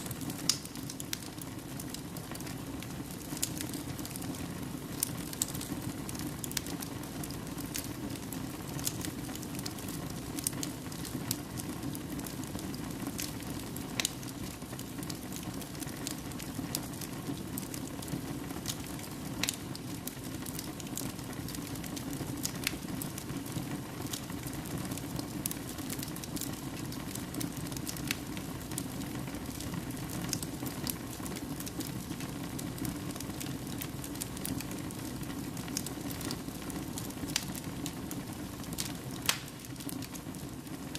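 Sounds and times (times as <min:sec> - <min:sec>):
fire crackles and pops: 0:00.0 - 0:40.9
low rumble of flames: 0:00.0 - 0:40.9.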